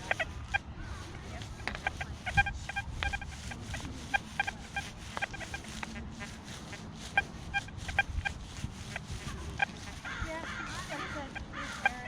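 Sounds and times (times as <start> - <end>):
metal detector short beeps: 1.3 - 10.0, 10.8 - 12.0.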